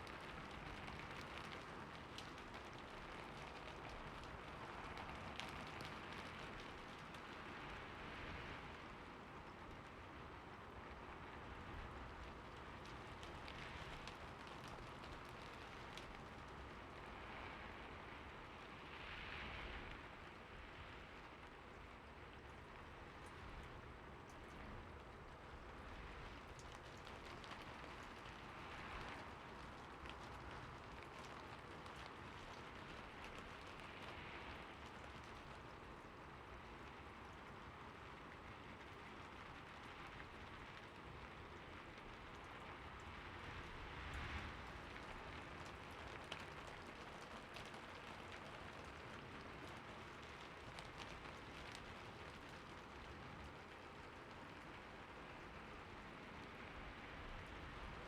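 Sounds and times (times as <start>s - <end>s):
soft steady rain: 0.0s - 58.0s.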